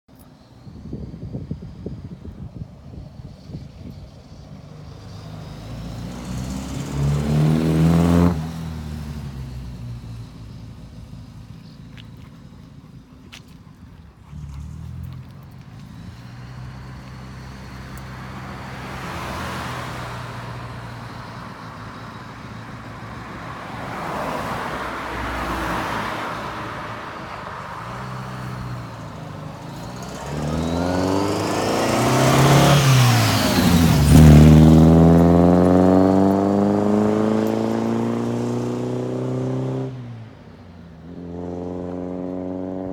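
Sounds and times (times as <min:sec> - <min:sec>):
sports car driving by: 0:04.3 - 0:42.9.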